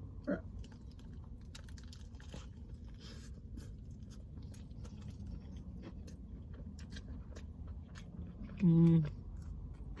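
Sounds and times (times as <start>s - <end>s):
chewing crisp food: 0.2s - 10.0s.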